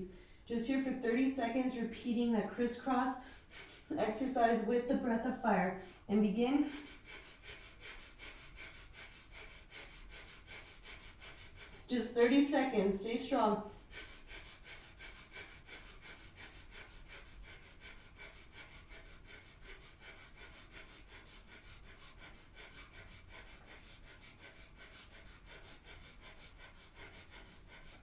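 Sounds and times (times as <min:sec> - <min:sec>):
rapid puffs of breath through nose: 0:02.8 - 0:04.7, 0:05.7 - 0:28.0.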